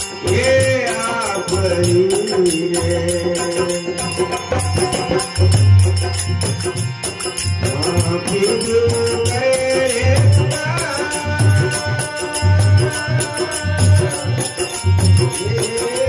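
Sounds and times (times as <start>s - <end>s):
jingling metal percussion: 0.0s - 16.0s
steady drum beat: 0.0s - 16.0s.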